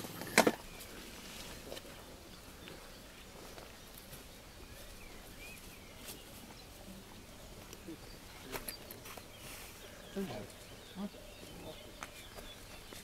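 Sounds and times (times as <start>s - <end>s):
bird chirps: 0.1s - 13.0s.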